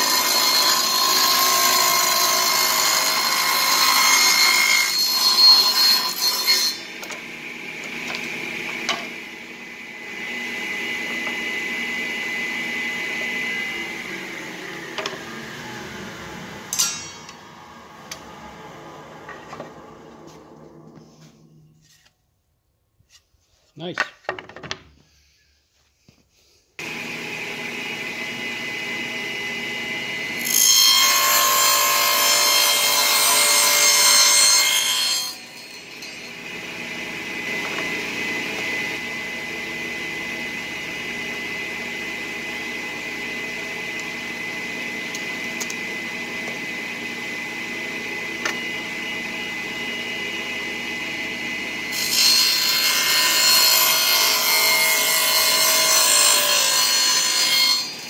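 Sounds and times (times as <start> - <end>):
saw cutting wooden board: 0.0 - 21.0, 26.8 - 58.0
table saw whining: 0.0 - 22.0, 26.8 - 58.0.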